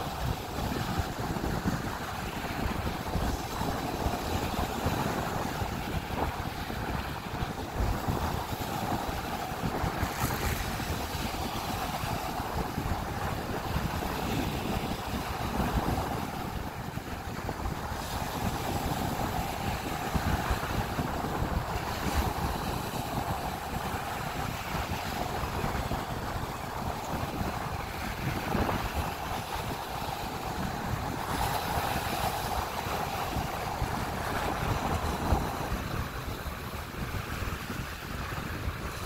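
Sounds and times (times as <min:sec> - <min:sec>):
small waves breaking on beach: 0:00.0 - 0:39.0
wind buffeting microphone: 0:00.0 - 0:39.0.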